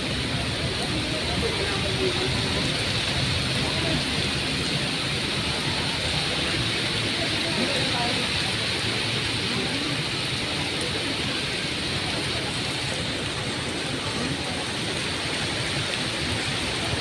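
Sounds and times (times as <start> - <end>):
rain on wet paving: 0.0 - 17.0
strong wind: 0.0 - 17.0.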